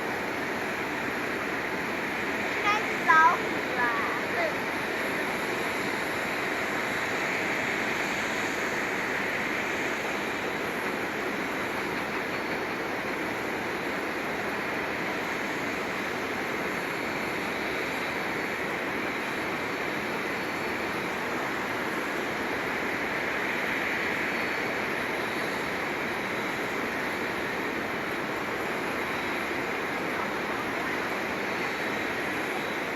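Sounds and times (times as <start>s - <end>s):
jet aircraft roar: 0.0s - 32.9s.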